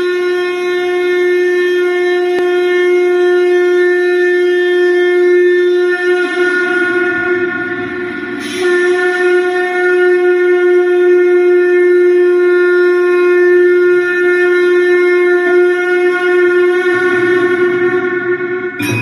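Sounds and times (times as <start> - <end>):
conch shell blown: 0.0 - 19.0.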